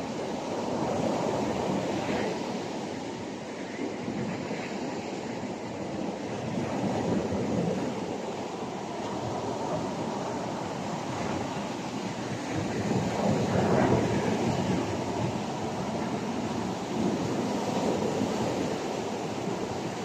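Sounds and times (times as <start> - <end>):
surf washing on beach: 0.0 - 20.0
wind rumbling on microphone: 0.0 - 20.0.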